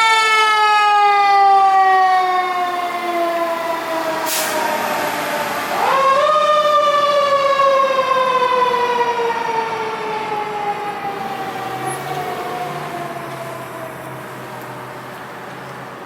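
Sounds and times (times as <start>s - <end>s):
fire engine siren: 0.0s - 16.0s.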